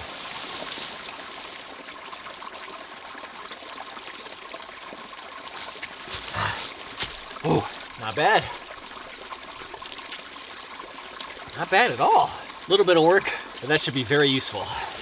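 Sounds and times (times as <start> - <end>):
stream trickling: 0.0 - 15.0.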